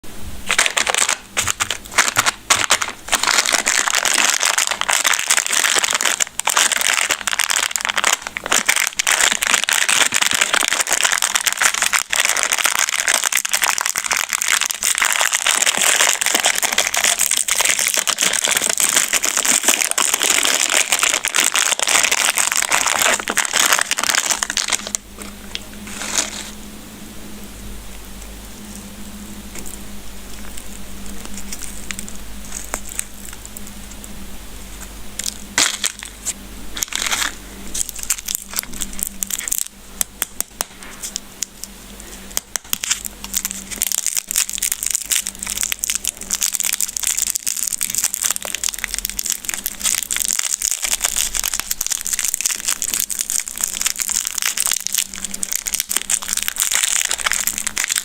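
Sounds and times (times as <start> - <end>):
candy wrappers crinkling: 0.4 - 26.6, 29.5 - 34.1, 35.2 - 58.0.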